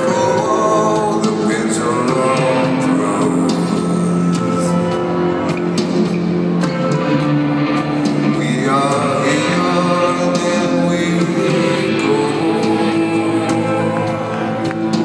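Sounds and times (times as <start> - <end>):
live rock band playing: 0.0 - 15.0
man singing lead vocal: 0.0 - 15.0.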